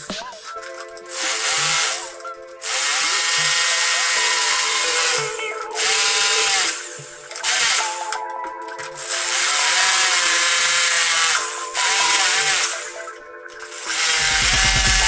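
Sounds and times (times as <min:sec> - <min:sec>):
background music with soft beat: 0:00.0 - 0:15.0
power drill running: 0:01.1 - 0:15.0.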